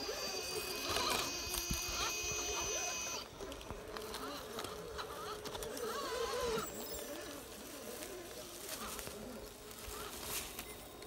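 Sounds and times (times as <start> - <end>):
small electric motor whining: 0.0 - 11.0.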